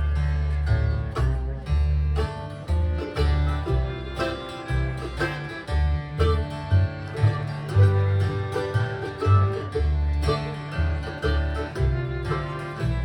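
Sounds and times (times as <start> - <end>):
plucked string notes: 0.0 - 13.0
walking bass line: 0.0 - 13.0.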